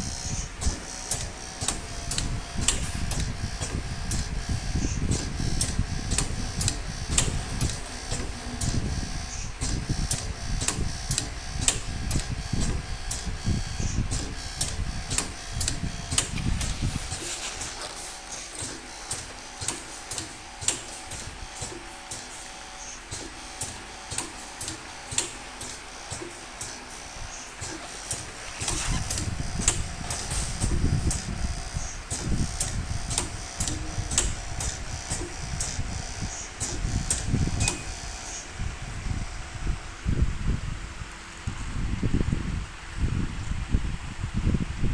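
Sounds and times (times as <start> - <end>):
low machine rumble: 0.0 - 19.6, 27.0 - 44.9
pneumatic cylinders clicking: 0.0 - 39.1.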